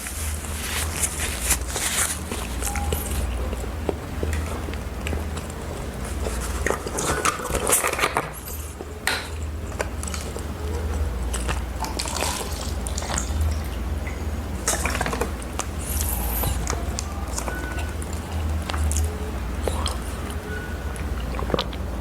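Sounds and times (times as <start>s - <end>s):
utensils clinking against bowl: 0.0s - 21.8s.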